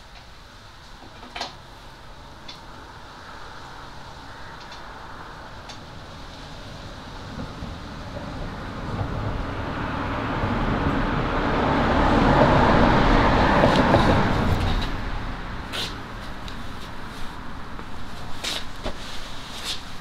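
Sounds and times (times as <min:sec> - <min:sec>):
passing vehicle rushing: 0:02.0 - 0:18.4.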